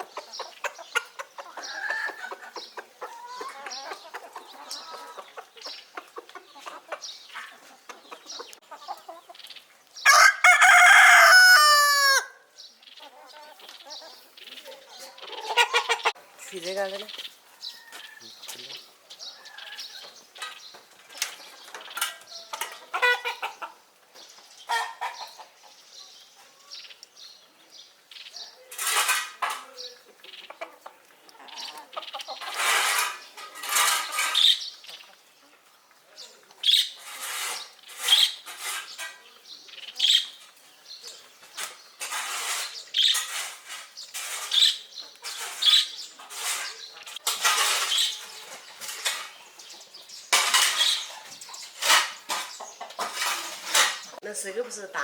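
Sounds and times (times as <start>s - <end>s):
chickens chirping: 0.0s - 55.0s.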